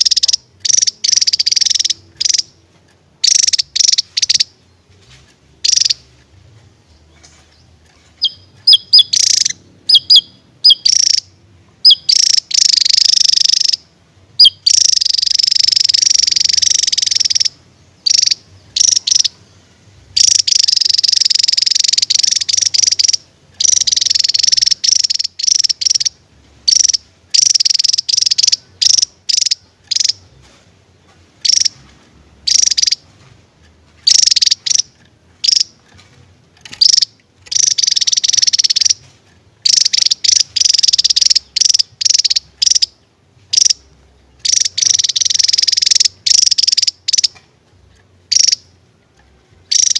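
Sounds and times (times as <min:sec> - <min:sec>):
bird singing in rapid trills: 0:00.0 - 0:02.6, 0:03.2 - 0:04.8, 0:05.6 - 0:06.1, 0:06.9 - 0:13.8, 0:14.4 - 0:19.6, 0:20.2 - 0:30.4, 0:31.4 - 0:31.8, 0:32.4 - 0:33.0, 0:34.0 - 0:35.8, 0:36.6 - 0:39.0, 0:39.6 - 0:47.4, 0:48.3 - 0:48.7, 0:49.6 - 0:49.9.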